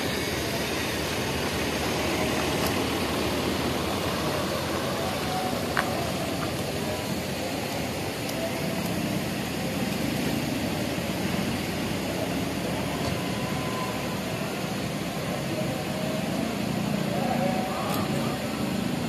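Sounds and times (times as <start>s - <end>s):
diesel coach engine running: 0.0s - 19.0s.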